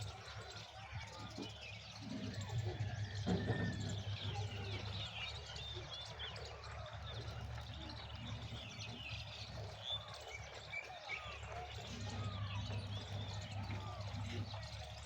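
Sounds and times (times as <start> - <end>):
small birds chirping: 1.4 - 15.0.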